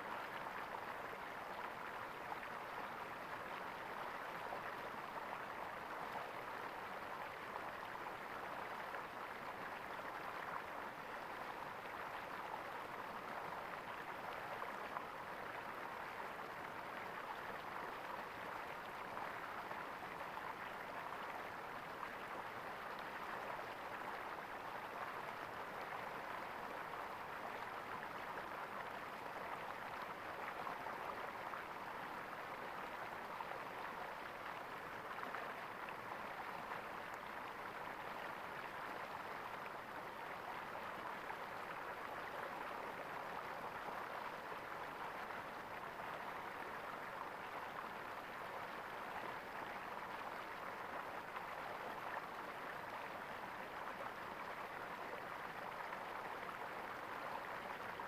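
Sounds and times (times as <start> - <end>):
flowing water gurgling: 0.0 - 58.0.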